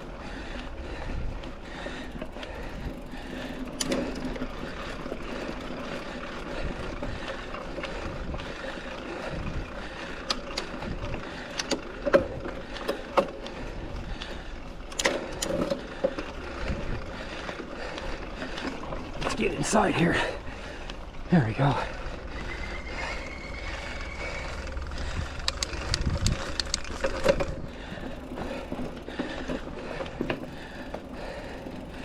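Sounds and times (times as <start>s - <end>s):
bike clacking and rattling: 0.0s - 32.0s
bike tyres on dirt trail: 0.0s - 32.0s.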